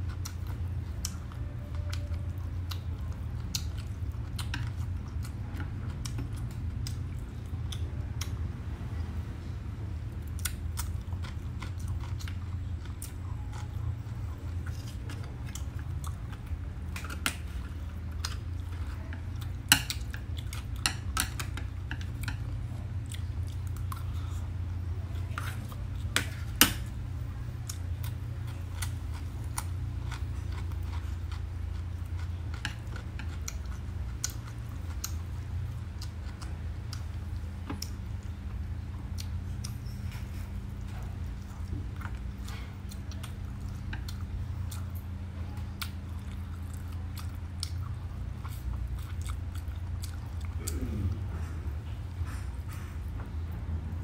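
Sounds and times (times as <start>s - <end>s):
chewing and crunching food: 0.0s - 54.0s
low hum: 0.0s - 54.0s.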